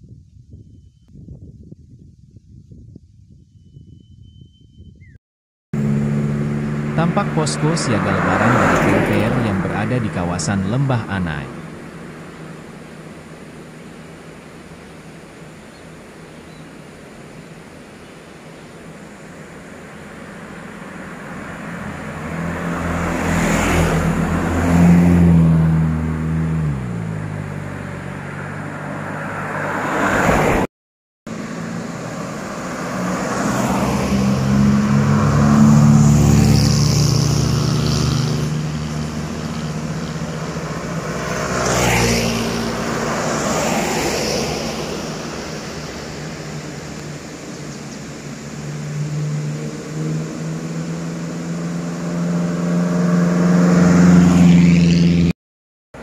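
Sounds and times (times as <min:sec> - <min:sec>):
cars passing: 0:05.8 - 0:30.7, 0:31.3 - 0:55.4.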